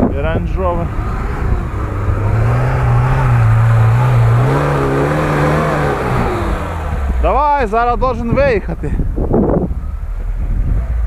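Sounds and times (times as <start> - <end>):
car engine revving under load: 0.0 - 11.0.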